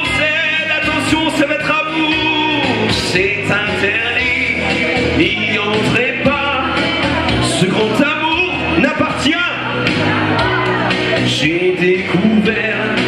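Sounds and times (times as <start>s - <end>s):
man singing into microphone: 0.0s - 9.8s, 11.2s - 13.0s
loud backing music: 0.0s - 13.0s.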